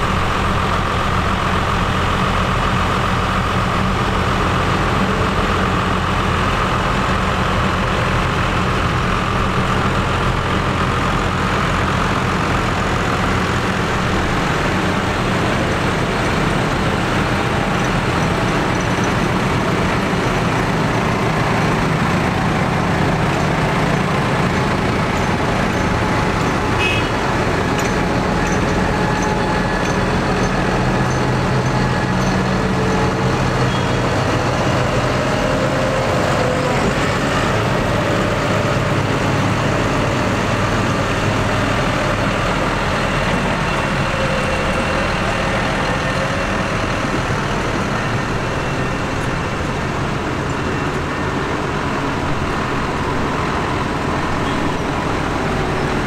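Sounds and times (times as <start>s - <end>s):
tractor engines running: 0.0s - 56.0s.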